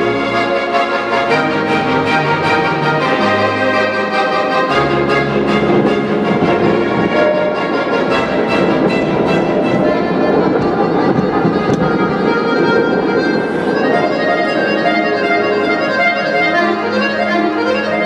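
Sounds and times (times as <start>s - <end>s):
accordion: 0.0s - 18.0s
cello: 0.0s - 18.0s
double bass: 0.0s - 18.0s
keyboard: 0.0s - 18.0s
violins: 0.0s - 18.0s.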